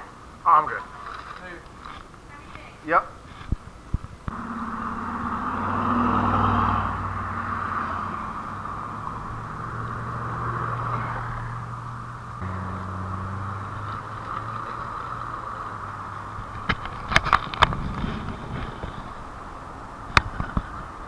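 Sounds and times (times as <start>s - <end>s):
road hiss: 0.0s - 21.0s
car engine hum: 3.7s - 21.0s.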